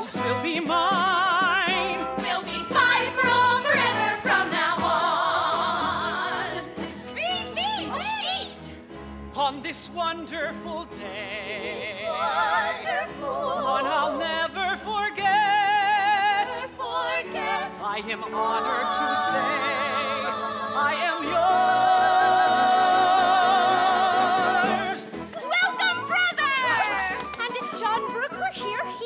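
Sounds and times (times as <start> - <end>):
man and women singing operatically: 0.0 - 8.0, 9.4 - 25.3
musical accompaniment: 0.0 - 29.0.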